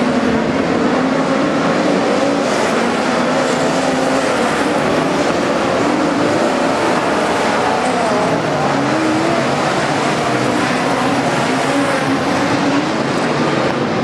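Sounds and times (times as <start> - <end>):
race car engines running hard: 0.0 - 14.0.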